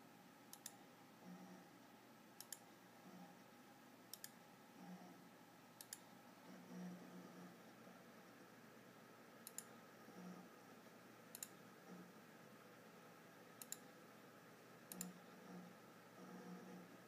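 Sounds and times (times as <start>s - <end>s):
computer humming: 0.0s - 17.0s.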